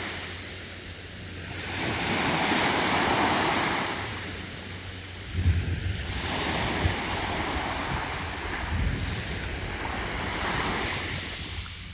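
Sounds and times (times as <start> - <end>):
small waves on sandy beach: 0.0 - 11.9
wind rumbling on microphone: 0.0 - 11.9.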